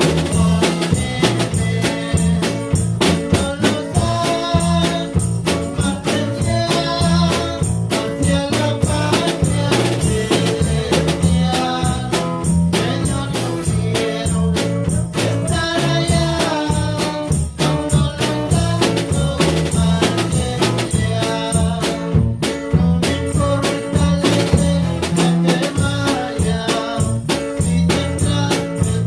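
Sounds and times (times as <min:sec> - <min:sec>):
drum kit beat: 0:00.0 - 0:29.0
live band music: 0:00.0 - 0:29.0.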